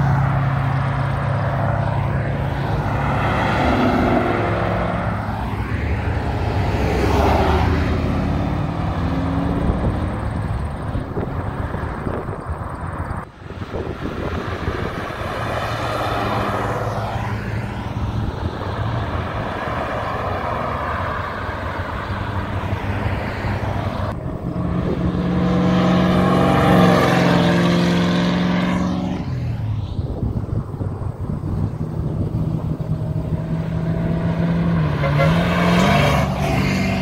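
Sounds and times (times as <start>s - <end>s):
cars driving past: 0.0s - 37.0s.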